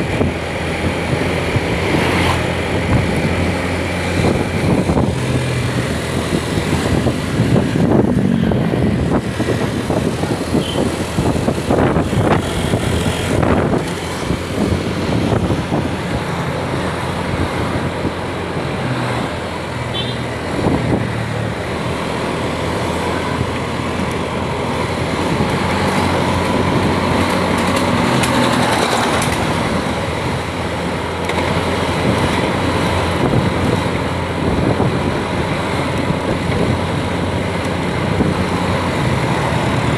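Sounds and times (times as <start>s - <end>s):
road noise: 0.0s - 39.9s
vehicle engine: 0.0s - 39.9s.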